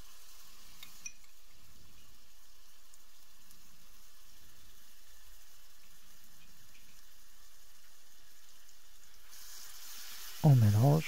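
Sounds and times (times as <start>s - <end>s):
onions sizzling in a frying pan: 0.0s - 11.0s.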